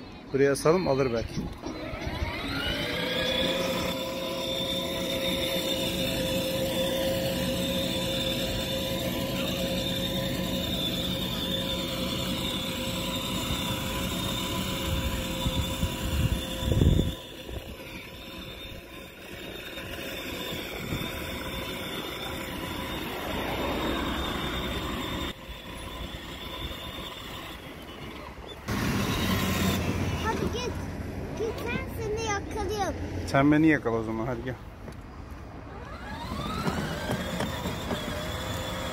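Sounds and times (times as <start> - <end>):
road traffic: 0.0 - 38.9
electric motor whine: 0.4 - 30.8, 35.6 - 38.9
tyre noise on asphalt: 1.4 - 32.6, 34.6 - 38.9.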